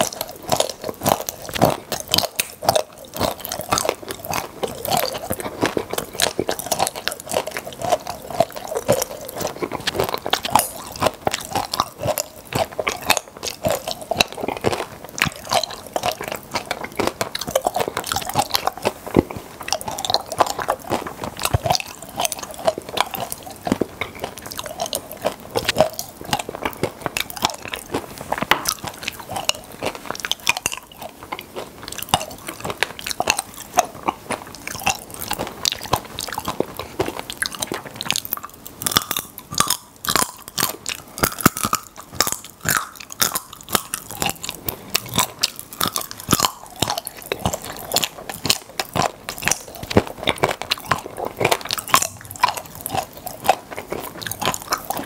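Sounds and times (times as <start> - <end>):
chewing crackling candy: 0.0 - 55.0.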